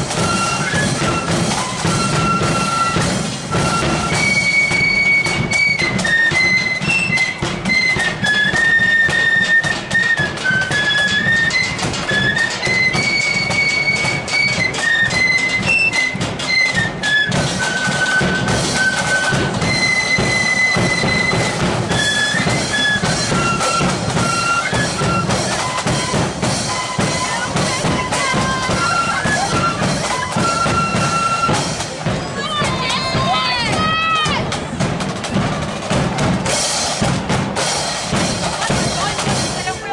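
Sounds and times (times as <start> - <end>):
flutes playing in unison: 0.0 - 39.9
marching drum beat: 0.0 - 39.9.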